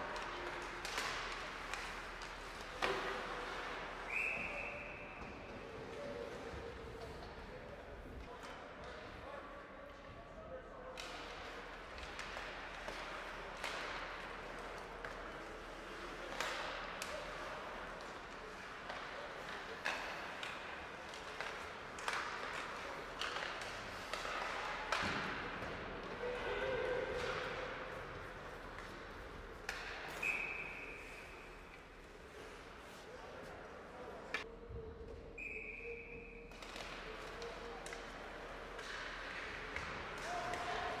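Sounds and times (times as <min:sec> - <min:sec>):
hockey sticks and puck clacking: 0:00.0 - 0:10.1, 0:10.7 - 0:34.5, 0:35.4 - 0:41.0.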